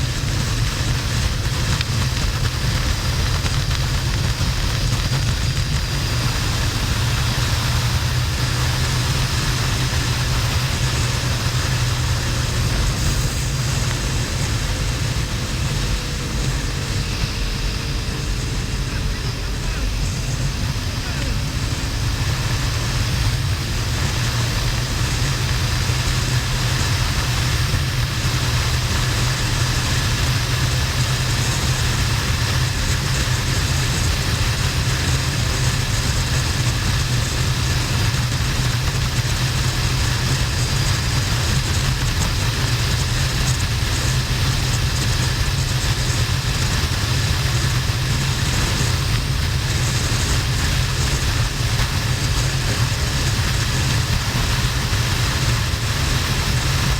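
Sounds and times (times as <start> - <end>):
motorcycle engine cruising: 0.0 - 56.9
wind rush on microphone: 0.0 - 56.9.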